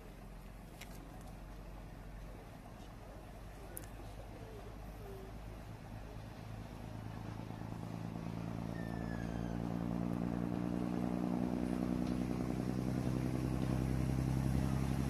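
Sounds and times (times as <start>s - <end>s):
diesel engine approaching: 0.0s - 15.0s.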